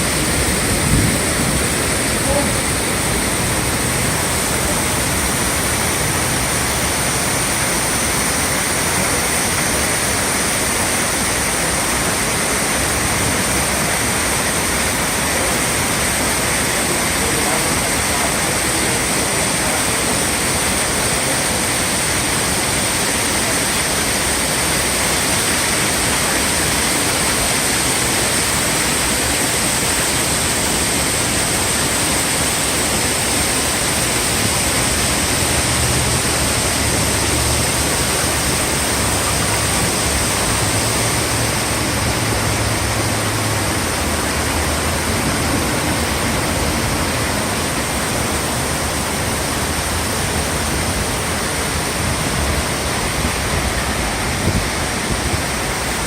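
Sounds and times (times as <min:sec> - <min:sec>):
heavy rain downpour: 0:00.0 - 0:56.0
river pouring over falls: 0:00.0 - 0:56.0.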